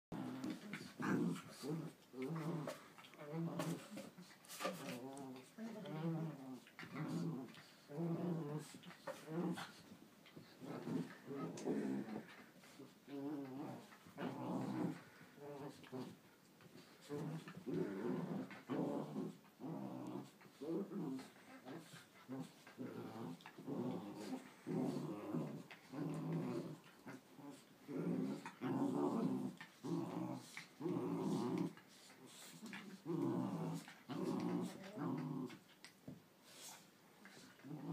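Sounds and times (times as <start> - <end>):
dogs growling: 0.1 - 37.9.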